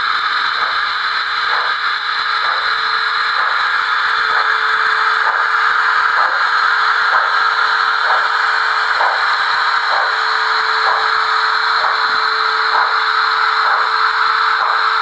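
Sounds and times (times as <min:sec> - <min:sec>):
model locomotive hiss and whir: 0:00.0 - 0:15.0
steady hum: 0:00.0 - 0:15.0.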